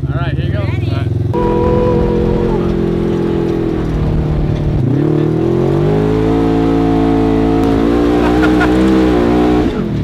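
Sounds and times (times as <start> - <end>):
vehicle engine accelerating: 0.5 - 10.0.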